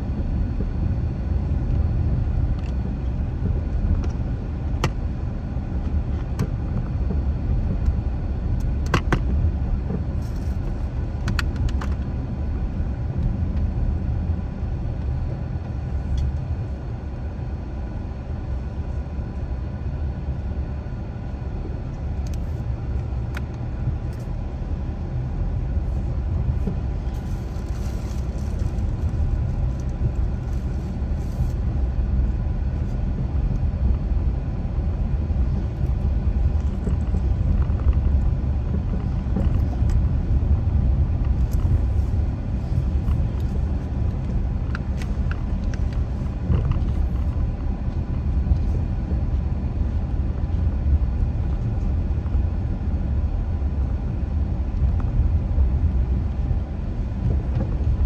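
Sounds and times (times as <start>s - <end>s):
car driving on a road: 0.0s - 58.0s.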